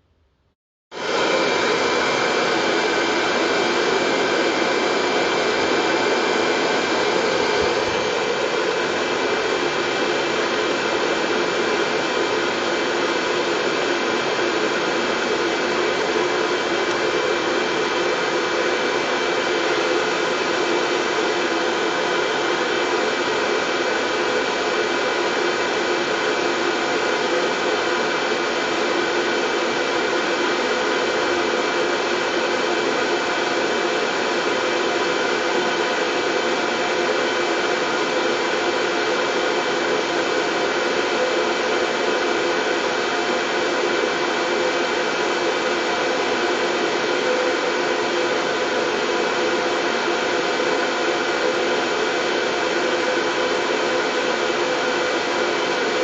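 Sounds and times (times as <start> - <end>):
white noise with high whine: 0.0 - 56.0.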